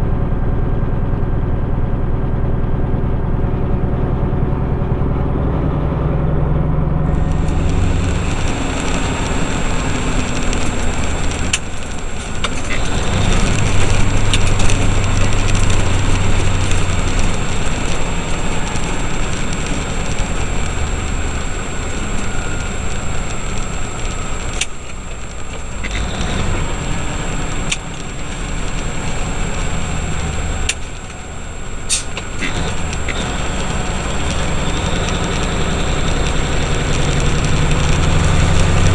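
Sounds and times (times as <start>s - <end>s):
road noise: 0.0s - 38.9s
truck diesel engine running: 0.0s - 38.9s
thin high whine: 7.0s - 38.9s.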